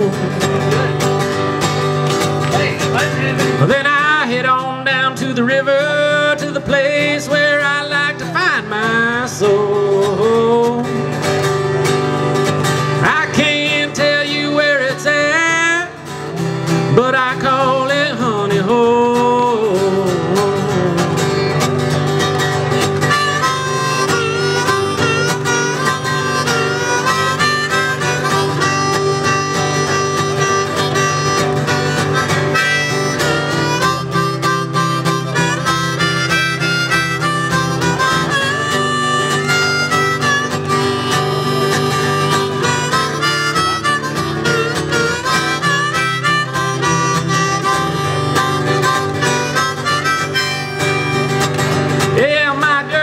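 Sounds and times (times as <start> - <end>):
harmonica melody: 0.0 - 53.0
strummed acoustic guitar: 0.0 - 53.0.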